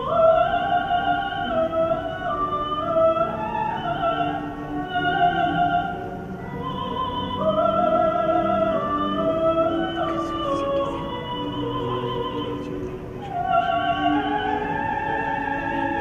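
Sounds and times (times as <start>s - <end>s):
low sustained accompaniment: 0.0s - 16.0s
operatic singing in high voice: 0.0s - 16.0s.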